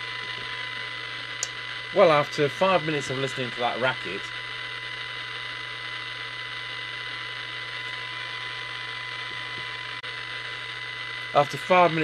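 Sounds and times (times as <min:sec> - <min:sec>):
low hum: 0:00.0 - 0:12.0
thin steady whine: 0:00.0 - 0:12.0.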